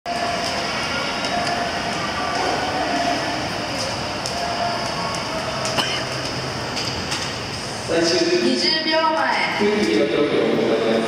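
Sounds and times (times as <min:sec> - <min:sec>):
indoor swimming pool ambience: 0:00.0 - 0:11.0.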